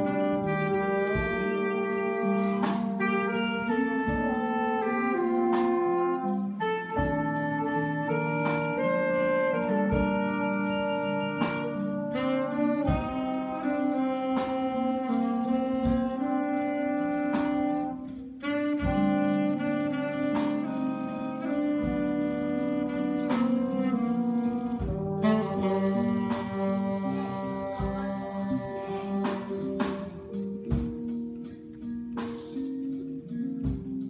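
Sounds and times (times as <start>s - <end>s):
sustained low accompaniment: 0.0s - 34.0s
trombone and saxophone melody: 0.0s - 34.0s.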